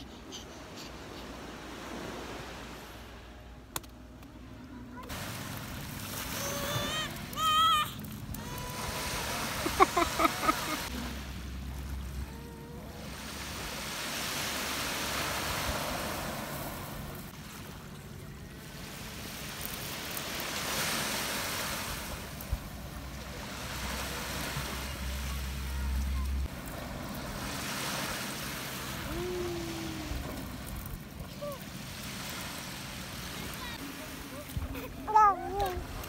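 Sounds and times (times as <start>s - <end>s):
waves washing over pebbles: 5.1s - 17.9s, 18.6s - 35.2s.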